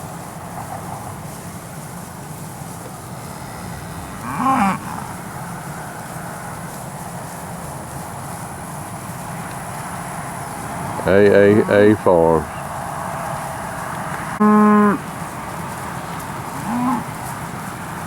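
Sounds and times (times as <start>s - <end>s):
steady background noise: 0.0s - 18.0s
steer bawling: 2.6s - 15.4s, 16.2s - 17.8s.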